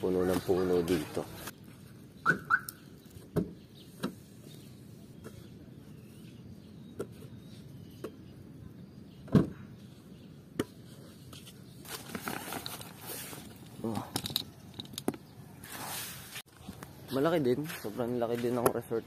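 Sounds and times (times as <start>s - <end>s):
low outdoor background: 0.0s - 19.0s.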